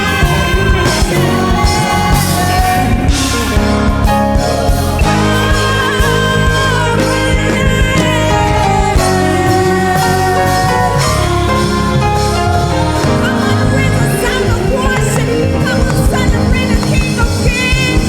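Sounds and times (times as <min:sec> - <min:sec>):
bass guitar: 0:00.0 - 0:18.0
drums: 0:00.0 - 0:18.0
guitar: 0:00.0 - 0:18.0
keyboard: 0:00.0 - 0:18.0.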